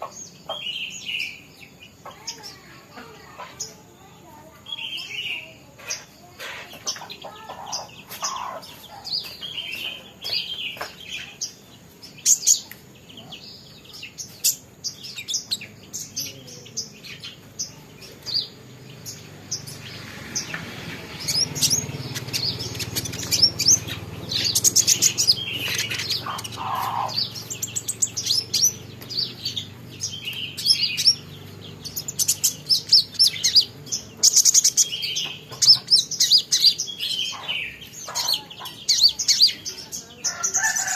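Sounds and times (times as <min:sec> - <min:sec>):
sunbird chirping: 0:00.0 - 0:40.9.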